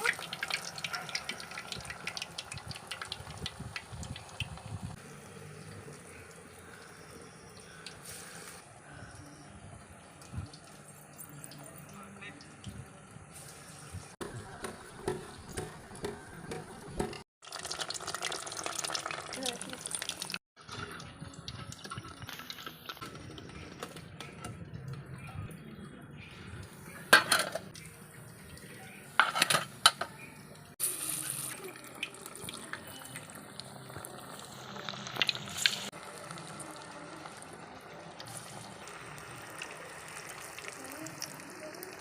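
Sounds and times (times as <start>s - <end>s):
food deep-frying in oil: 0.0s - 16.2s, 16.9s - 25.3s, 26.8s - 42.0s.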